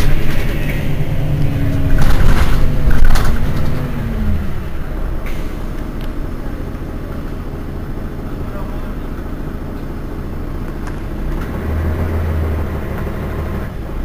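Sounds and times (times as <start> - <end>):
bus diesel engine rumble: 0.0 - 14.0.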